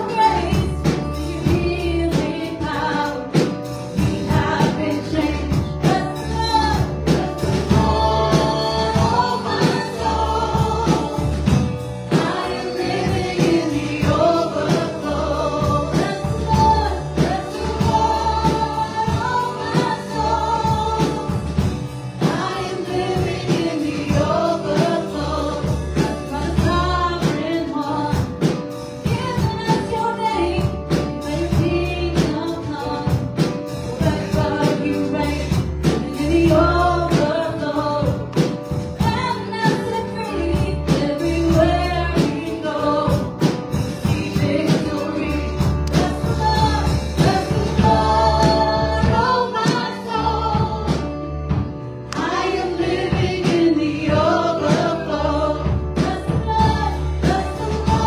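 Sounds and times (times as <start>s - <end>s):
woman singing: 0.0s - 51.2s, 52.2s - 58.0s
drum kit with cymbals: 0.0s - 58.0s
keyboard: 0.0s - 58.0s.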